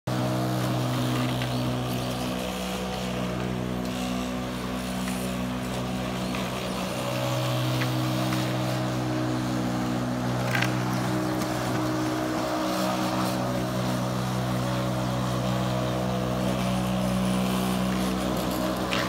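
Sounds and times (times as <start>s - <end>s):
lawn mower engine running: 0.1s - 19.0s.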